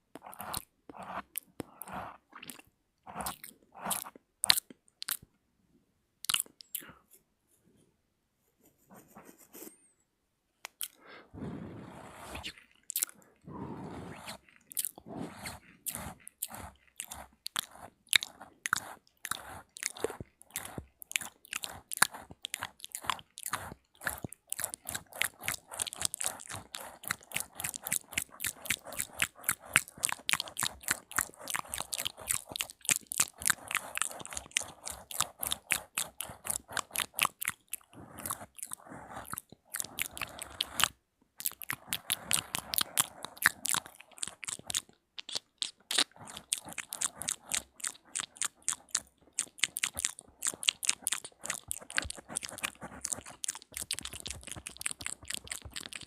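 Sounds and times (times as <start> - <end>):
mouth clicks: 0.1 - 5.3, 10.6 - 11.1, 12.3 - 56.0.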